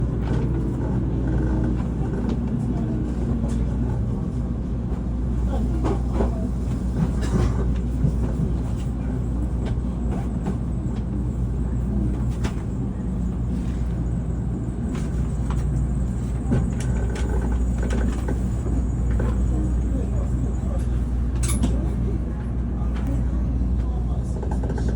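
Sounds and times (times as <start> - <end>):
train rumbling: 0.0 - 24.9.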